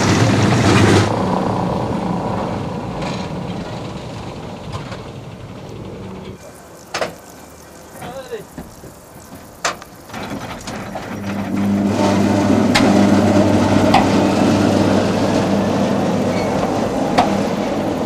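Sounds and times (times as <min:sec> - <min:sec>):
electric railcar drive humming: 0:00.0 - 0:18.0.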